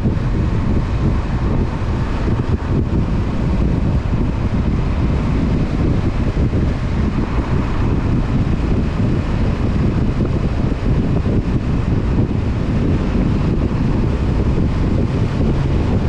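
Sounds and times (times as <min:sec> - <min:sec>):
motorcycle engine cruising: 0:00.0 - 0:16.0
wind rushing over microphone: 0:00.0 - 0:16.0.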